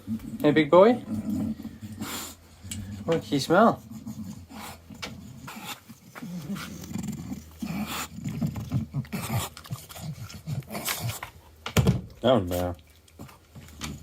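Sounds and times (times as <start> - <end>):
dog sniffing: 0.0 - 11.6
low dog vocal sounds: 0.0 - 11.6.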